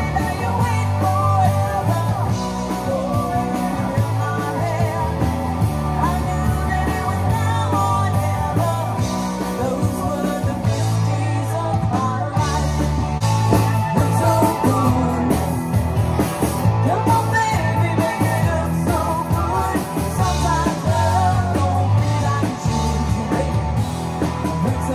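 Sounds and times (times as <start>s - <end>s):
woman singing: 0.0s - 13.0s, 13.8s - 15.6s, 16.8s - 23.9s, 24.6s - 24.9s
bass line: 0.0s - 24.9s
drums: 0.0s - 24.9s
electric guitars: 0.0s - 24.9s.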